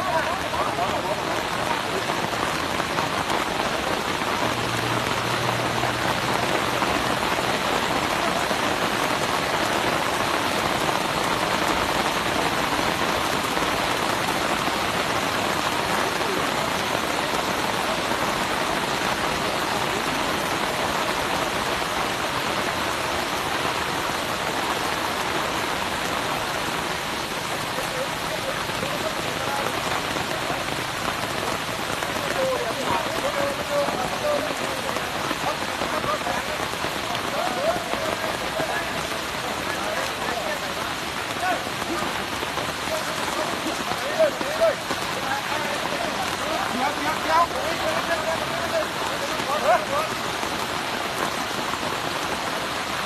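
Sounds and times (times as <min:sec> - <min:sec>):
heavy rain splashing on water: 0:00.0 - 0:53.0.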